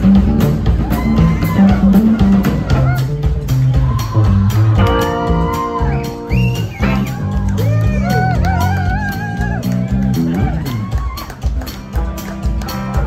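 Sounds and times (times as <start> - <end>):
drums: 0.0 - 13.0
electric bass line: 0.0 - 13.0.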